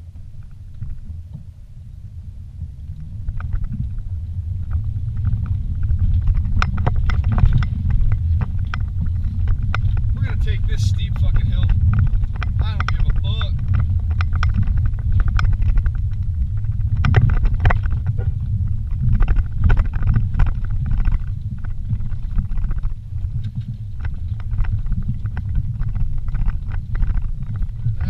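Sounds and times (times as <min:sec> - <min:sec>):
vehicle rumbling over dirt track: 0:00.0 - 0:28.0
knocks and rattles: 0:04.6 - 0:28.0.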